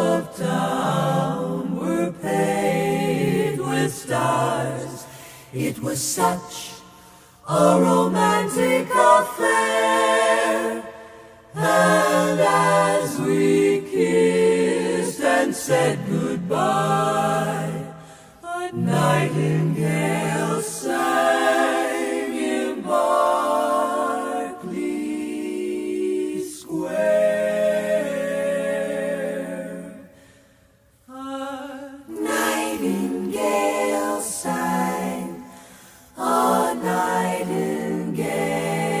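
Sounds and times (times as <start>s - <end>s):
a cappella quartet singing: 0.0s - 39.0s.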